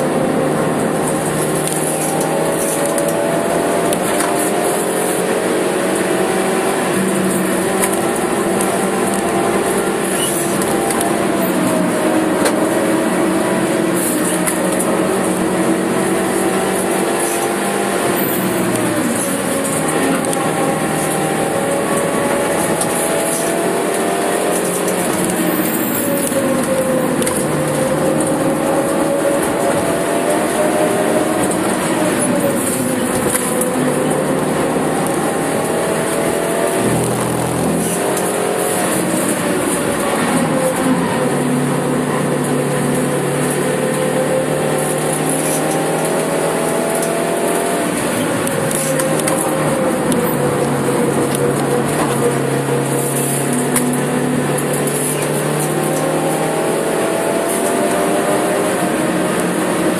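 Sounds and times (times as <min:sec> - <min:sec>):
car engine revving: 0:00.0 - 0:59.9
tyre and road noise: 0:00.0 - 0:59.9.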